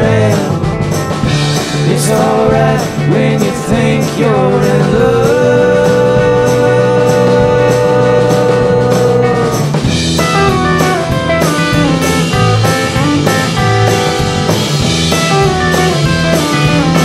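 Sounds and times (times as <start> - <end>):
band playing instrumental: 0.0 - 17.0
drum kit: 0.0 - 17.0
guitar: 0.0 - 17.0.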